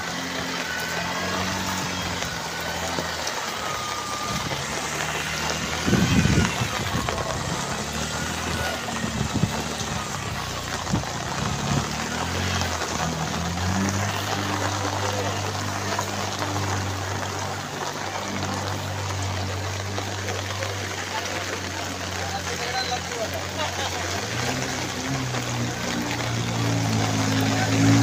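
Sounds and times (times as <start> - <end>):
heavy rain on water: 0.0 - 28.0
wading splashes: 0.0 - 28.0.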